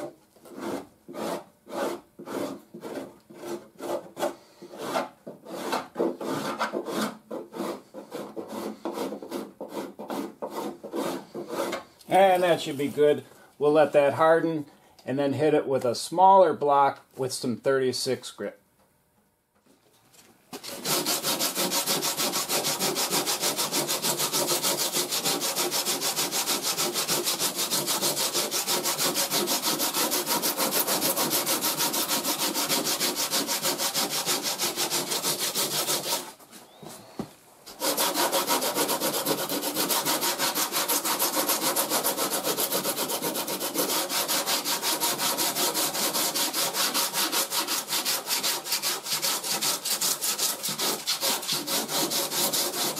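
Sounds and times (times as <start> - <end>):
hand sanding with sandpaper: 0.0 - 13.1, 20.6 - 36.6, 37.7 - 52.9.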